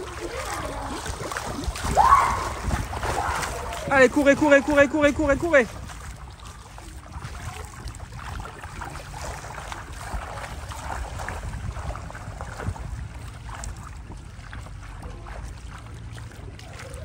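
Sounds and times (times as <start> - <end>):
ball rolling and splashing in water: 0.0 - 17.0
small splashes: 0.0 - 17.0
wind rumble on microphone: 0.0 - 17.0.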